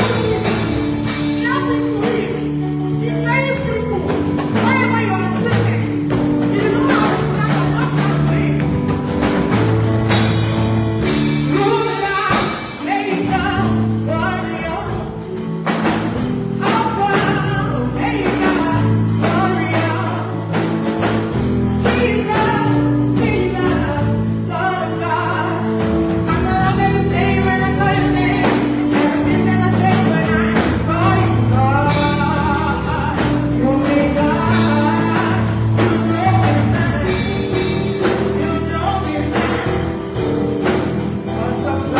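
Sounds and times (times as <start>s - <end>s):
gospel singing: 0.0s - 41.9s
keyboard and bass chords: 0.0s - 41.9s.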